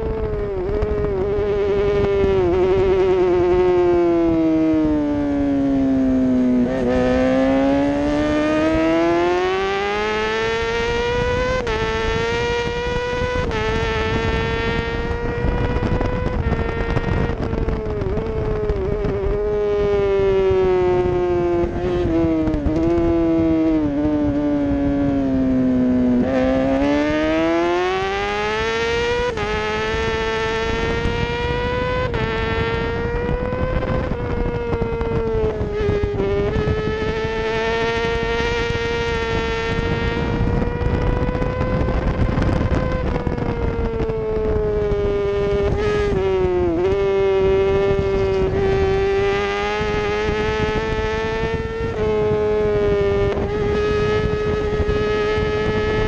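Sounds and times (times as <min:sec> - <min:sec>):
motorbike engine at high revs: 0:00.0 - 0:56.0
wind noise: 0:00.0 - 0:56.0.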